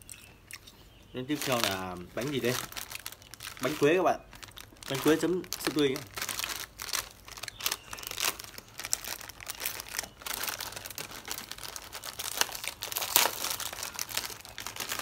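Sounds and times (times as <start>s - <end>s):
plastic wrapper crinkling and tearing: 1.3s - 15.0s.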